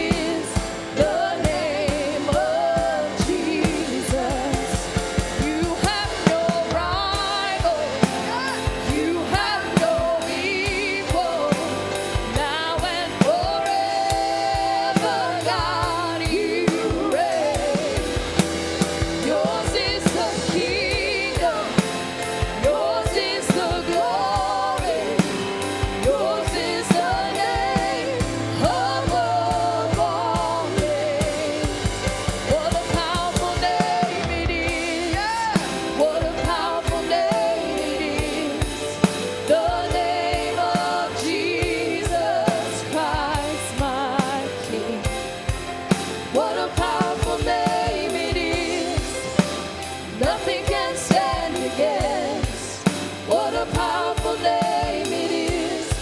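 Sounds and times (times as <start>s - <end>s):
drum kit beat: 0.0s - 56.0s
singers singing: 0.0s - 56.0s
worship band playing: 0.0s - 56.0s.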